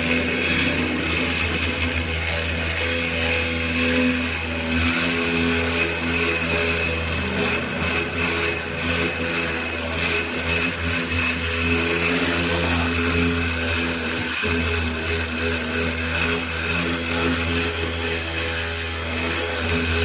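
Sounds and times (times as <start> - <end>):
power tool running: 0.0 - 20.0.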